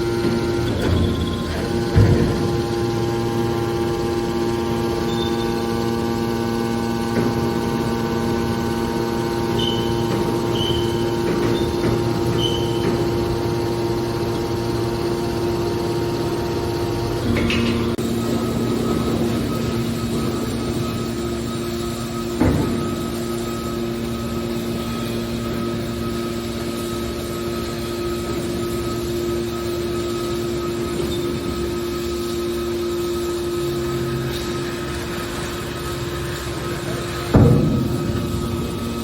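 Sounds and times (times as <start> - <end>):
hydraulic baler motor humming: 0.0 - 39.0.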